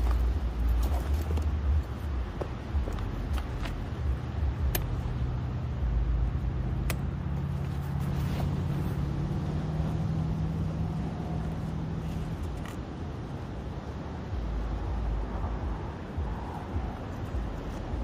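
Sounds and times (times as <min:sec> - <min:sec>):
low engine drone: 0:00.0 - 0:18.0
wind rumbling on microphone: 0:00.0 - 0:18.0.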